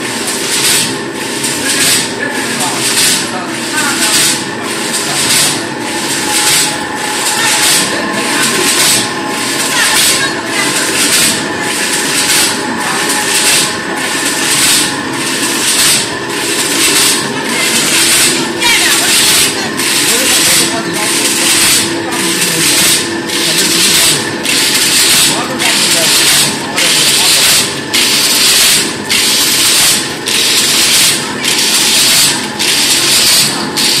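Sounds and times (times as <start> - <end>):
loom clattering beat: 0.0 - 34.0
steady machine hum: 0.0 - 34.0.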